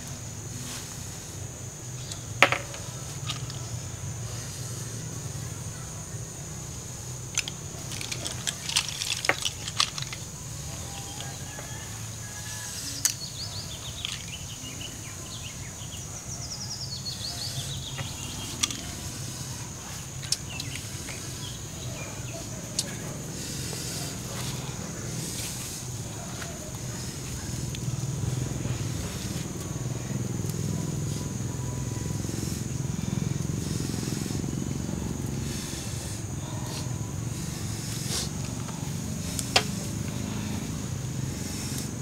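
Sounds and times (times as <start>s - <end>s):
falling chirps: 0.0s - 42.0s
high insect drone: 0.0s - 42.0s.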